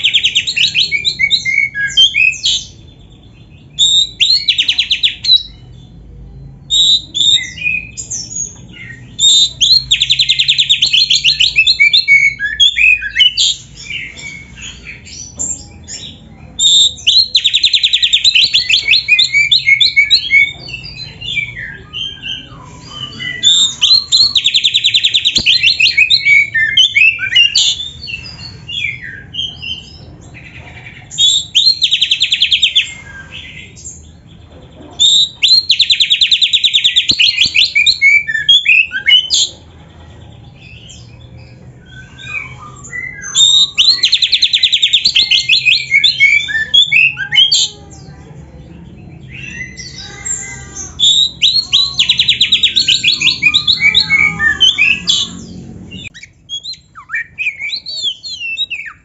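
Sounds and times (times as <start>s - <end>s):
bird singing with trills: 0.0s - 59.0s.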